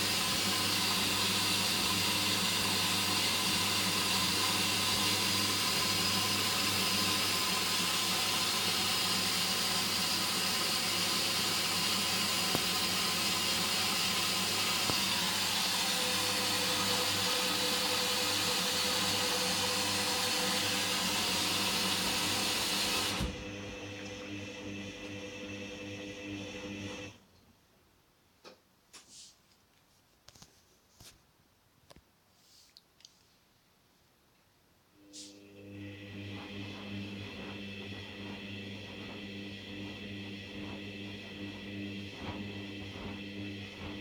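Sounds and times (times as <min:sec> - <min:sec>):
water hissing into washing machine: 0:00.0 - 0:27.1, 0:35.2 - 0:44.0.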